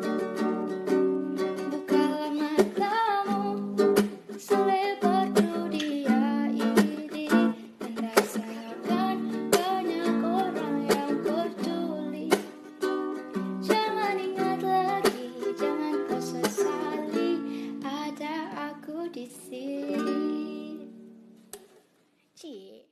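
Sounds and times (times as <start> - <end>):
strummed guitar: 0.0 - 21.8
woman singing: 1.3 - 12.6, 13.6 - 21.0.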